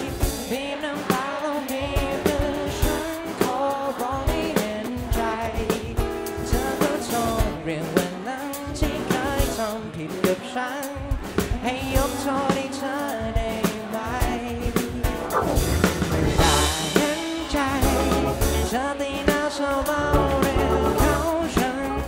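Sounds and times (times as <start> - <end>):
man singing into a microphone: 0.0 - 15.3, 16.4 - 22.0
drum kit steady beat: 0.0 - 22.0
guitars: 0.0 - 22.0.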